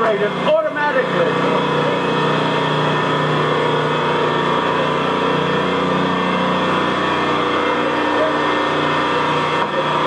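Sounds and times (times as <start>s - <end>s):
diesel generator running: 0.0s - 10.0s.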